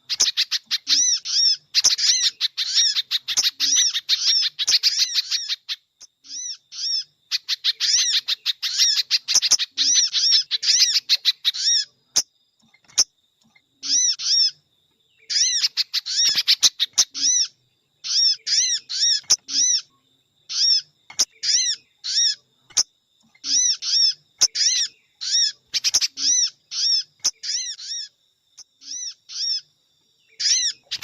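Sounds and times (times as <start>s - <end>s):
high arched bird chirps: 0.0s - 31.0s.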